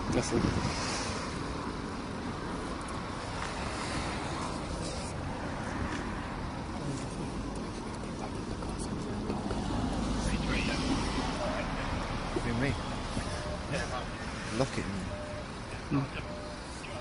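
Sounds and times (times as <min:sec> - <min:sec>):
street background rumble: 0:00.0 - 0:17.0.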